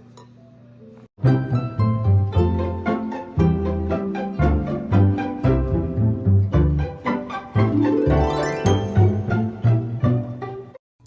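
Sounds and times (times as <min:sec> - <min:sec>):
plucked and bowed strings music: 0:01.2 - 0:10.8.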